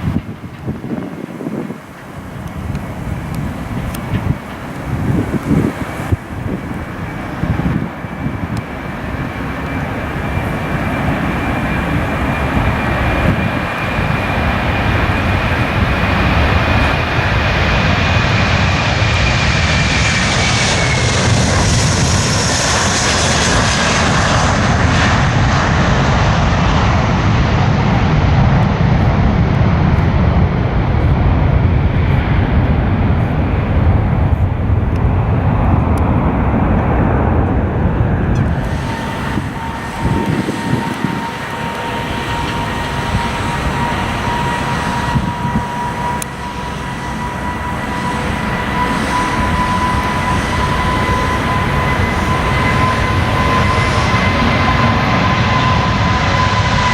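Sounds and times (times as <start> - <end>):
jet airliner engines passing: 0.0 - 56.9.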